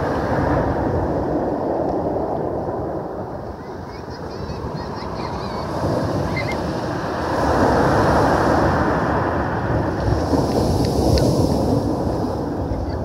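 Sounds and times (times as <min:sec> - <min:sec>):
waves breaking on pebble beach: 0:00.0 - 0:13.0.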